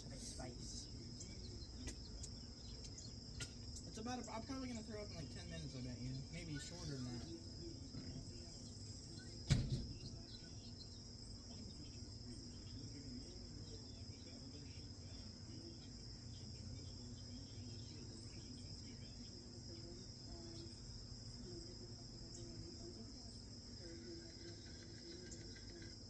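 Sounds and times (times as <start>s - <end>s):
insect chirring: 0.0s - 26.0s.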